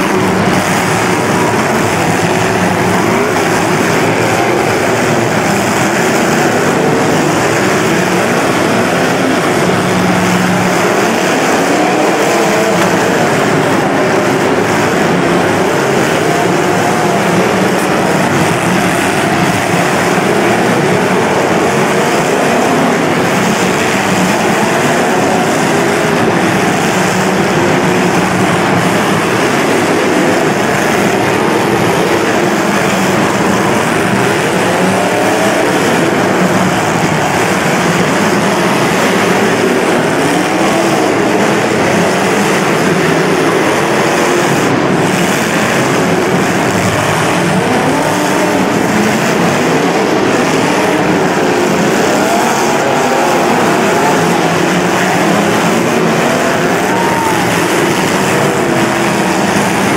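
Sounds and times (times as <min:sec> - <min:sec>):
car engines revving together: 0:00.0 - 0:59.9.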